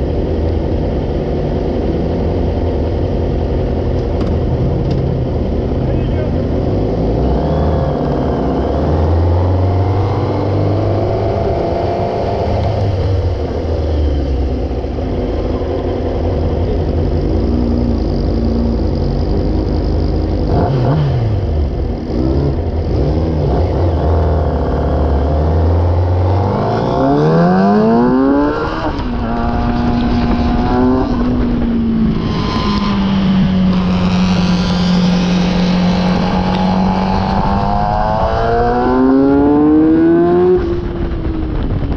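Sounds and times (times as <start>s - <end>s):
motorcycle engine accelerating: 0.0s - 41.9s
wind noise: 0.0s - 41.9s.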